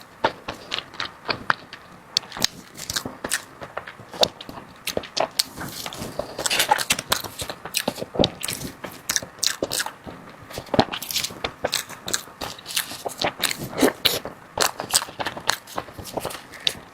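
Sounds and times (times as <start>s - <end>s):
person chewing food: 0.0s - 16.9s.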